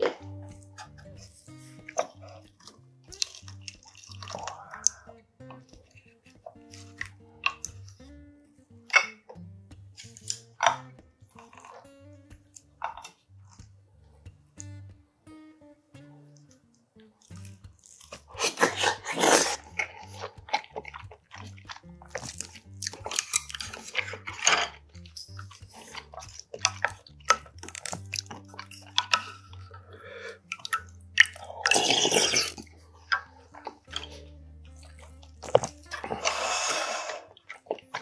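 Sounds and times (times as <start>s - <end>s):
wet chewing mouth sounds: 0.0s - 14.7s, 16.3s - 38.0s.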